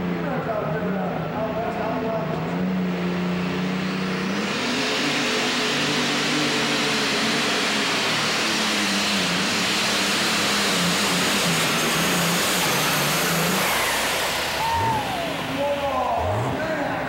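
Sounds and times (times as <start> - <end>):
pulling tractor engine at full throttle: 0.0 - 17.0.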